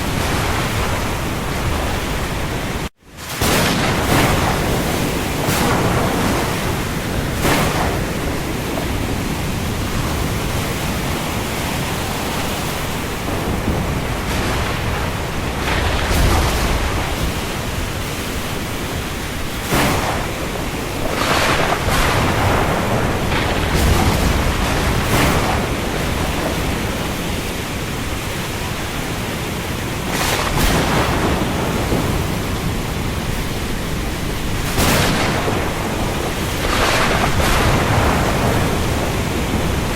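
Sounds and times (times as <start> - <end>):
rain falling on sea: 0.0 - 39.9.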